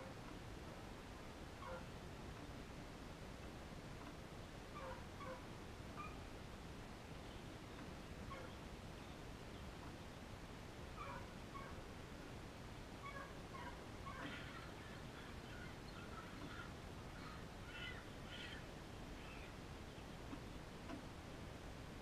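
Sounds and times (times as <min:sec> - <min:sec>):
steady low background noise: 0:00.0 - 0:22.0.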